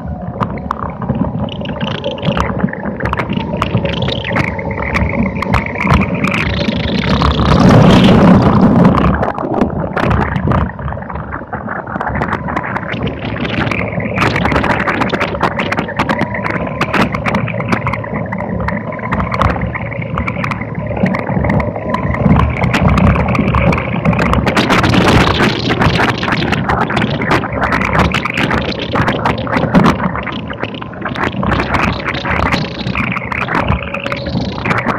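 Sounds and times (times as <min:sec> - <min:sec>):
tyre and wind noise: 0:00.0 - 0:34.9
clicks and rattles: 0:00.4 - 0:34.9.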